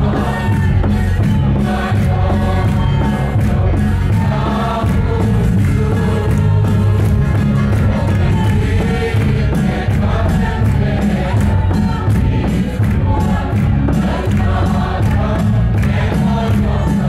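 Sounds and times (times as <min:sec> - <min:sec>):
congregation singing a hymn: 0:00.0 - 0:17.0
large drum beating: 0:00.0 - 0:17.0.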